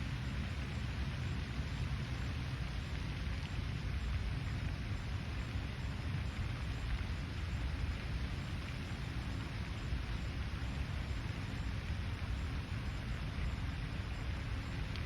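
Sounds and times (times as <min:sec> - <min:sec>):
outdoor hiss: 0:00.0 - 0:15.0.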